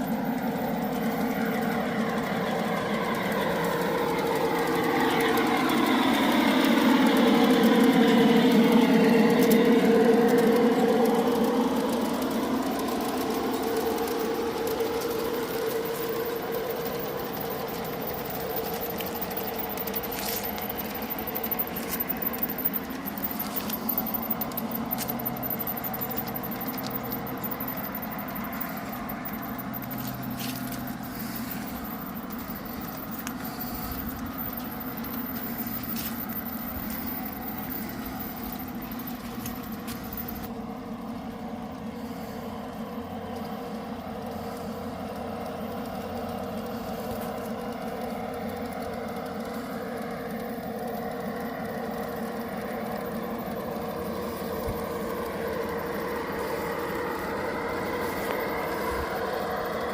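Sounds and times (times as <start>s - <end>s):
model train mechanical hum: 0.0s - 59.9s
train cars rattling: 0.0s - 59.9s.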